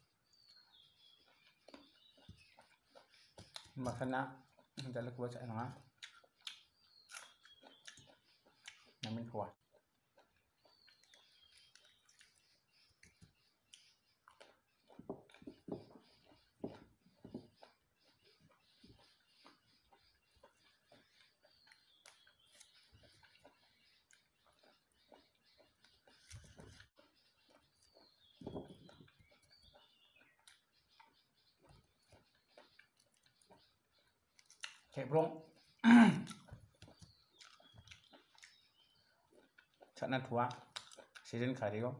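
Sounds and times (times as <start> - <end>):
wet chewing and mouth smacking: 0.0 - 41.3.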